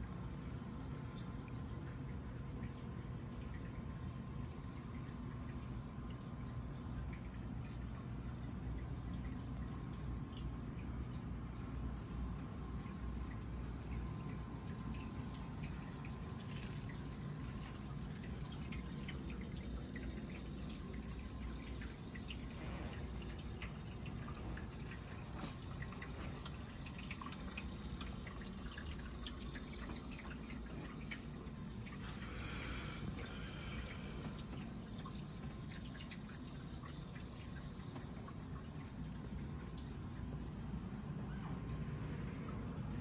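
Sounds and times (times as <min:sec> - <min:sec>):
steady low hum: 0:00.0 - 0:43.0
water dripping and trickling: 0:00.0 - 0:43.0.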